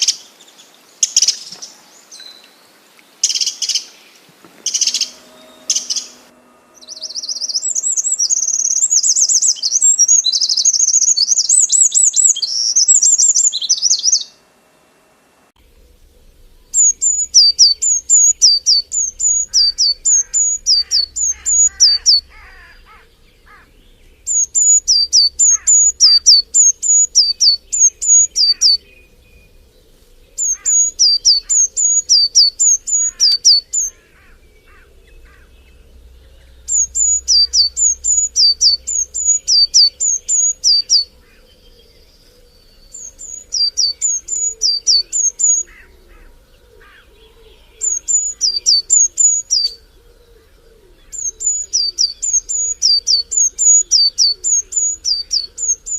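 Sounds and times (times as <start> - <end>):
faint bird chirps: 0.0 - 14.4, 15.6 - 55.9
bird singing sharp down-slurred notes: 3.2 - 14.5, 15.6 - 55.9.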